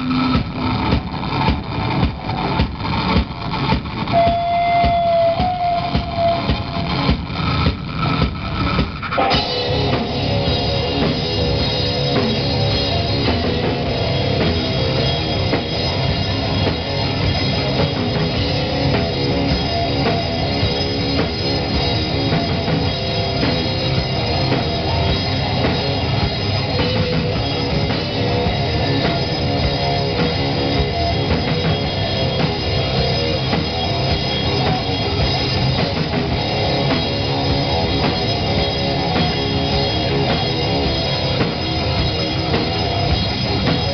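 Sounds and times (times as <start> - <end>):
bass guitar: 0.0 - 43.9
drum kit: 0.0 - 43.9
electric guitars: 0.0 - 43.9.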